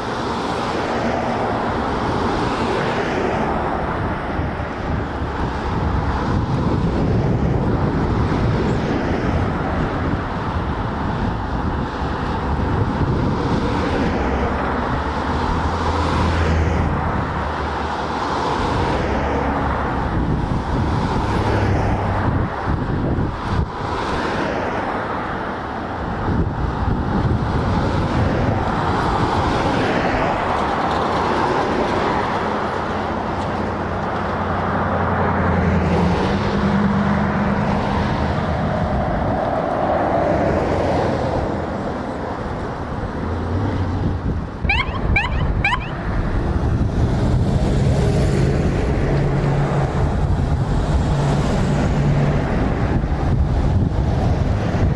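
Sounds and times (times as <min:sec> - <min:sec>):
vehicle engine rumble: 0:00.0 - 0:54.9
wind gusts on microphone: 0:00.0 - 0:54.9.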